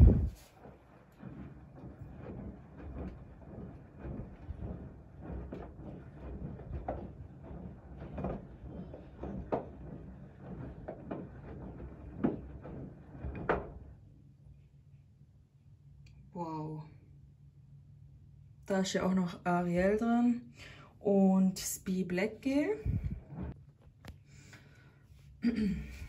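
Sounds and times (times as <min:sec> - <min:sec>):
washing machine tumbling laundry: 0:00.0 - 0:14.8, 0:18.7 - 0:25.0, 0:25.7 - 0:26.0.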